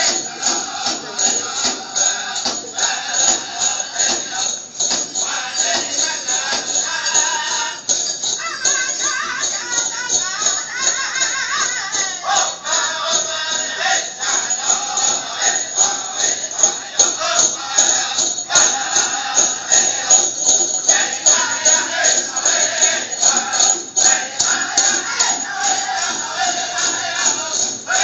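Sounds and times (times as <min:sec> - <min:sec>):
bells jingling: 0:00.0 - 0:28.0
high group singing: 0:00.0 - 0:28.0
steady drumbeat: 0:00.0 - 0:28.0.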